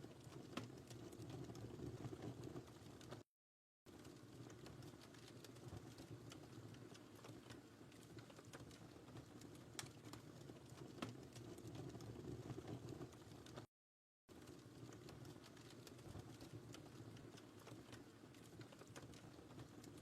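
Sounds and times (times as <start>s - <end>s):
wood fire crackling: 0.0s - 3.2s, 3.9s - 13.7s, 14.3s - 20.0s.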